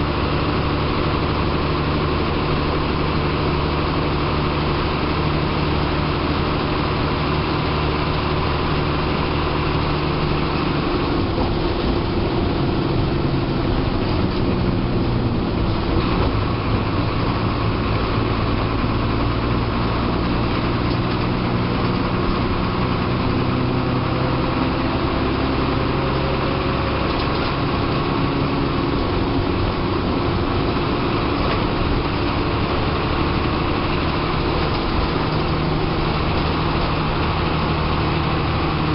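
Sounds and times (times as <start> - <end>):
bus diesel engine humming: 0.0 - 38.9.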